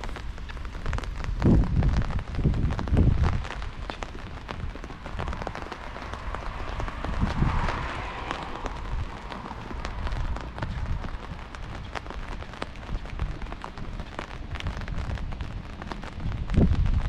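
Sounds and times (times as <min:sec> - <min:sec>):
heavy rain on street: 0:00.0 - 0:17.0
raindrops splashing close by: 0:00.0 - 0:17.0.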